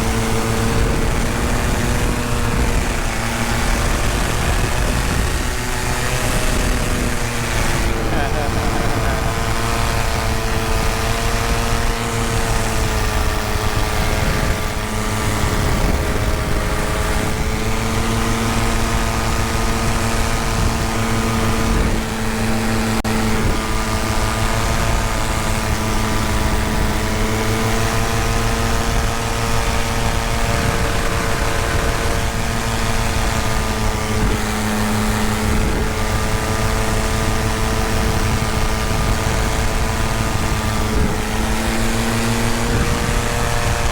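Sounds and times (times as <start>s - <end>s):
paramotor engine droning: 0.0s - 43.9s.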